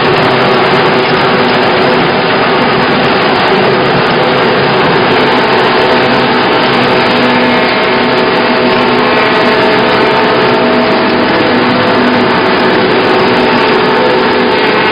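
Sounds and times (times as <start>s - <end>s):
sawdust machine running: 0.0s - 14.9s.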